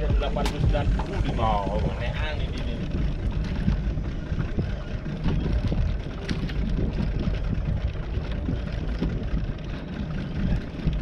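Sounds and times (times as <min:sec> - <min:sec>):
fishing boat engine rumble: 0:00.0 - 0:11.0.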